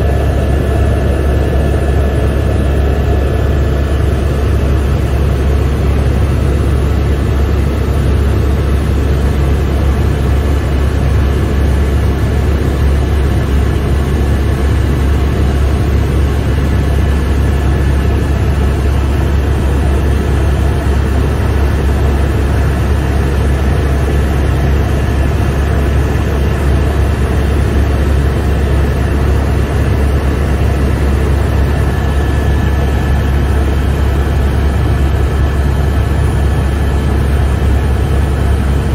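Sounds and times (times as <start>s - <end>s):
helicopter cabin drone: 0.0s - 38.9s.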